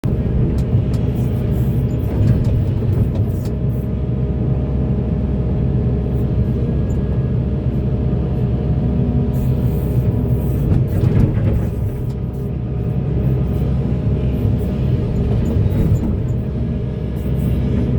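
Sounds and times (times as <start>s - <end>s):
excavator diesel engine droning: 0.0s - 17.9s.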